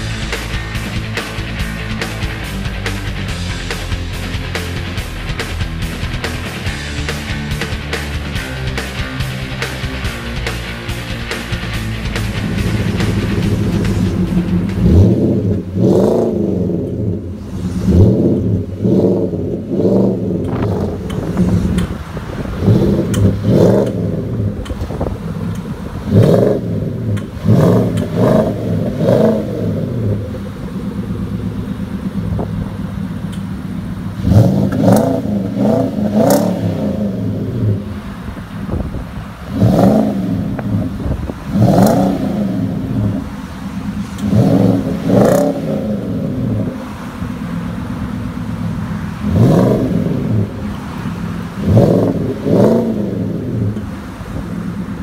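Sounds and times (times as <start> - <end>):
truck engine idling and revving: 0.0 - 55.0.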